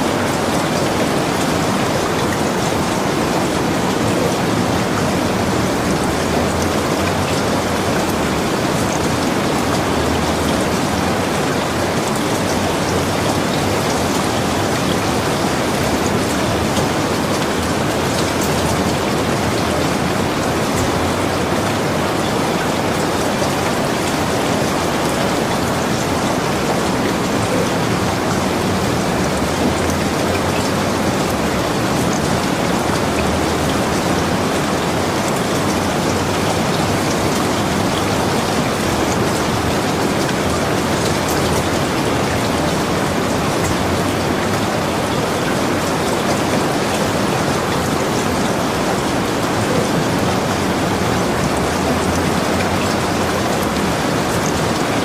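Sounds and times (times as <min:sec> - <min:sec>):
rain hissing: 0:00.0 - 0:55.0
raindrops ticking: 0:00.0 - 0:55.0.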